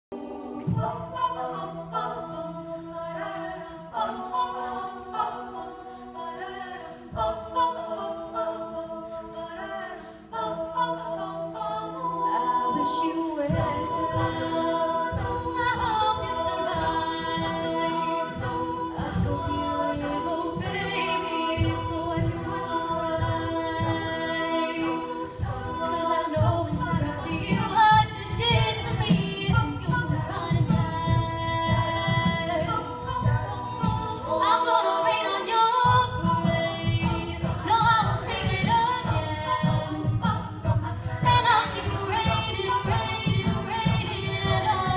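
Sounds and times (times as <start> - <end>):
voices singing a cappella: 0.0 - 44.9.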